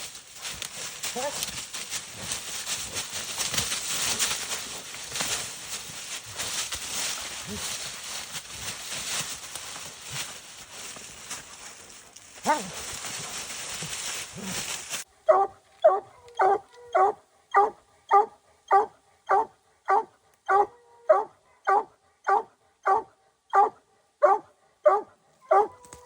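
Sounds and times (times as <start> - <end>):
hound barking: 0.4 - 8.2, 12.4 - 26.0.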